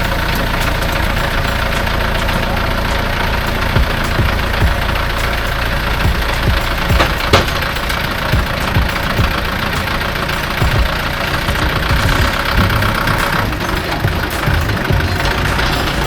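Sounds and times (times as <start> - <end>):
heavy machine engine idling: 0.0 - 16.0.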